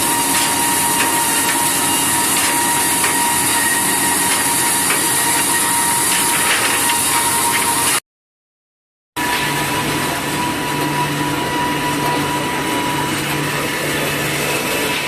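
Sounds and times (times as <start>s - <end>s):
woodworking machine hissing and whining: 0.0s - 8.0s, 9.2s - 15.0s.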